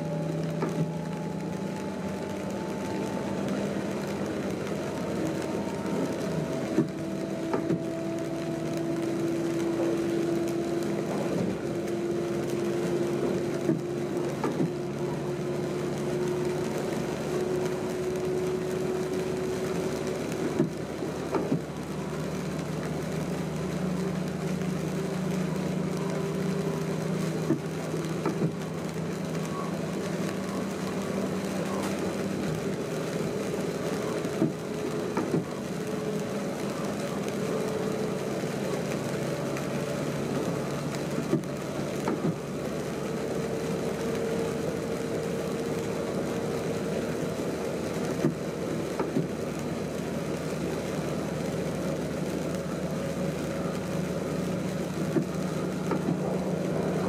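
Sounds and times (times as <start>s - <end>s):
train drive hum: 0.0s - 57.0s.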